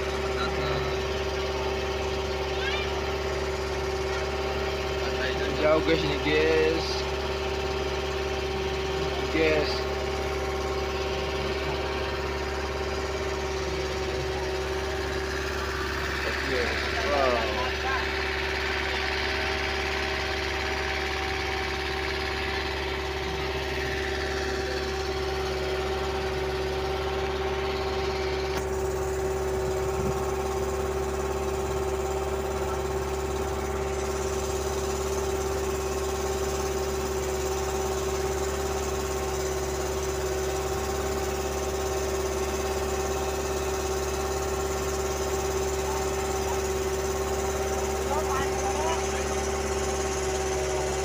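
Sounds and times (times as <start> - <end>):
boat engine humming: 0.0 - 51.0.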